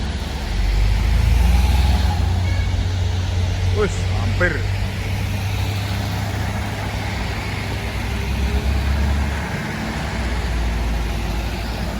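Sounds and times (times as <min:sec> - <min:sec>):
truck diesel engine droning: 0:00.0 - 0:11.9.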